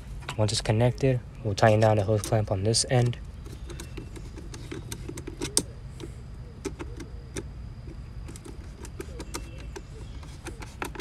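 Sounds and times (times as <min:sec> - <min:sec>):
low background rumble: 0:00.0 - 0:10.9.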